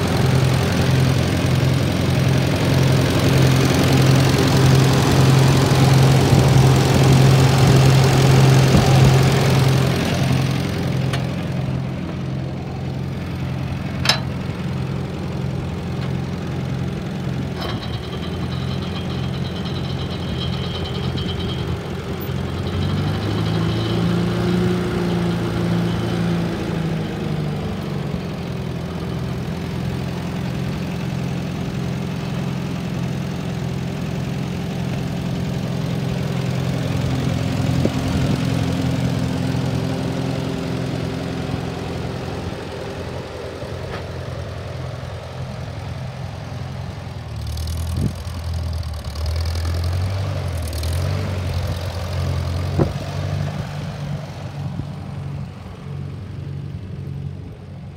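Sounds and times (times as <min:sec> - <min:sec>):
tractor engine idling: 0:00.0 - 0:57.9.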